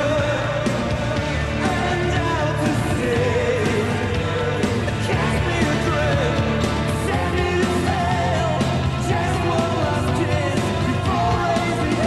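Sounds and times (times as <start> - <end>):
person singing: 0.0 - 12.0
rock band playing: 0.0 - 12.0.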